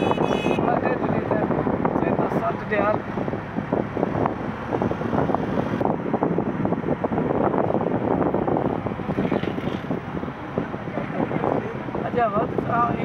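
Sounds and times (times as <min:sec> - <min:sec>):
road and engine noise: 0:00.0 - 0:13.0
wind buffeting microphone: 0:00.0 - 0:13.0.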